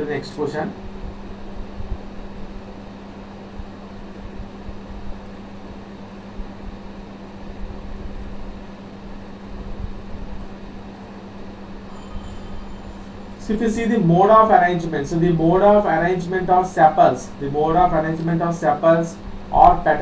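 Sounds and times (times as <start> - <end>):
faint rumbling hiss: 0.0 - 20.0
low steady hum: 0.0 - 20.0.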